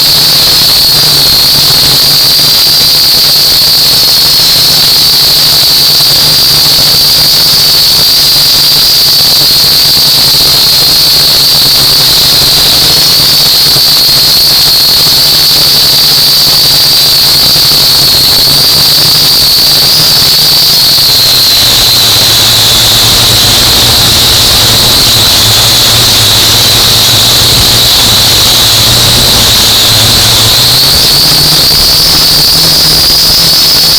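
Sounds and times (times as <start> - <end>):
quadcopter motors whining: 0.0 - 33.9.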